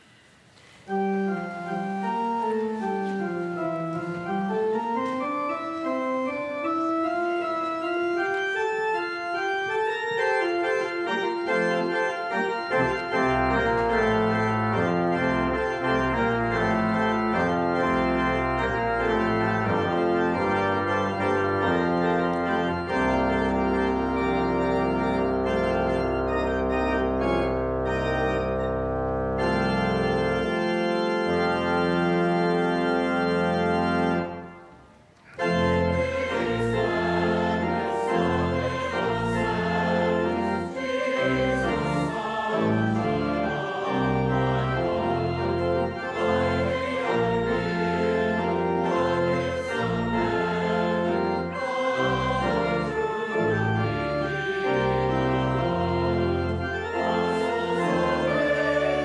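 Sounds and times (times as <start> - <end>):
church organ playing: 0.8 - 59.0.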